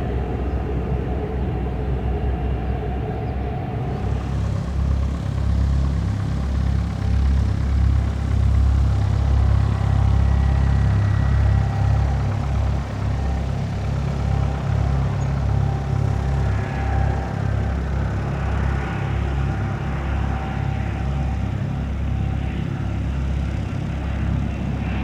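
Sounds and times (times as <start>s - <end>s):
high turbine whine: 0.0s - 25.0s
jet engines rumbling: 0.0s - 25.0s.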